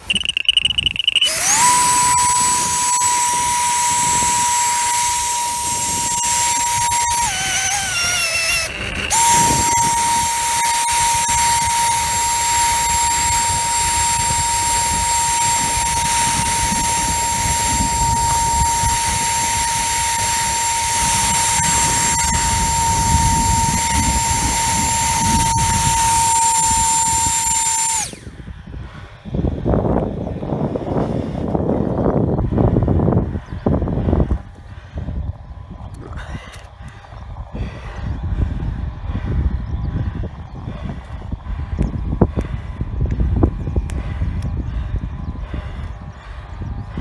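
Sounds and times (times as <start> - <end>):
electric ducted fan whine: 0.0 - 47.0.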